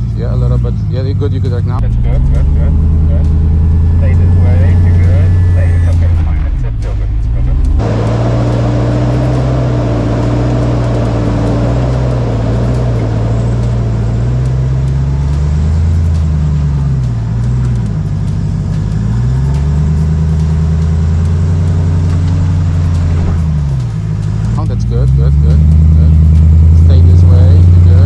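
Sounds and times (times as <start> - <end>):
truck engine at low revs: 0.0 - 28.0.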